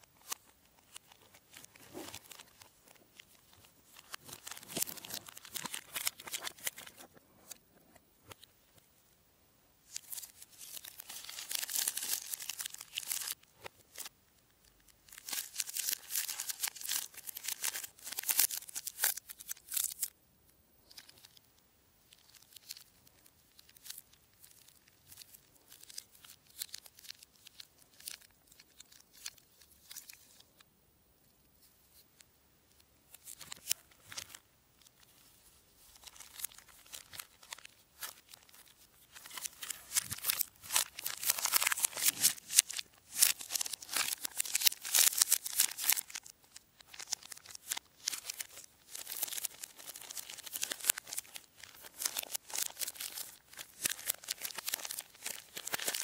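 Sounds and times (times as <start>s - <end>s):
plastic wrappers crinkling: 0.0s - 7.6s, 9.9s - 14.1s, 15.0s - 20.1s, 22.1s - 30.5s, 33.1s - 56.0s.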